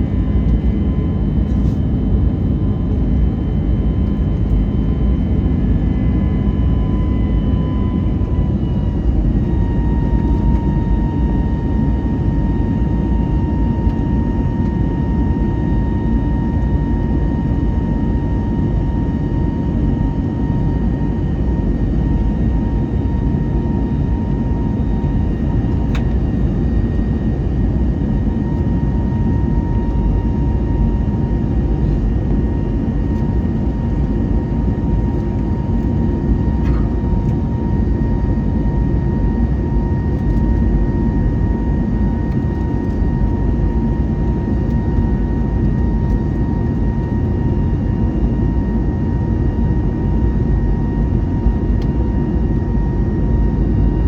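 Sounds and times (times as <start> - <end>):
engine and airflow rumble: 0.0 - 54.0
steady whine: 0.0 - 54.0.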